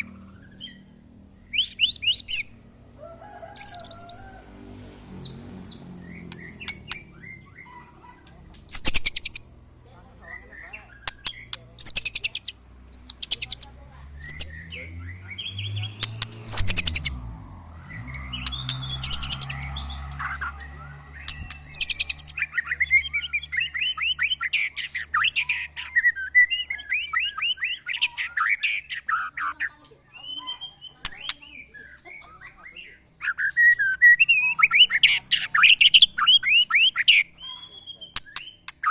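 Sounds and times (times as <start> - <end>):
birds singing high phrases: 0.0 - 2.6, 4.9 - 38.9
lower bird chattering: 3.5 - 4.4, 5.0 - 17.2, 17.8 - 38.9.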